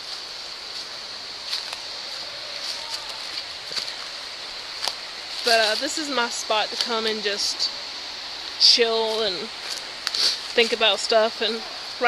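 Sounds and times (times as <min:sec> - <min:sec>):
footsteps on dry leaves: 0:00.0 - 0:12.0
steady high hiss: 0:00.0 - 0:12.0.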